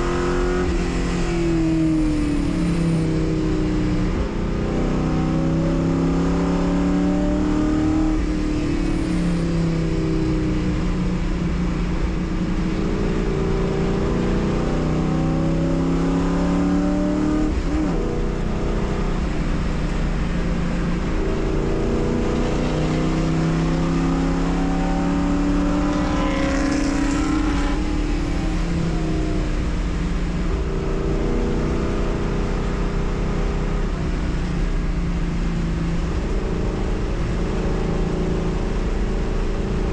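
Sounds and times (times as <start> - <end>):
race car engine accelerating: 0.0 - 39.9.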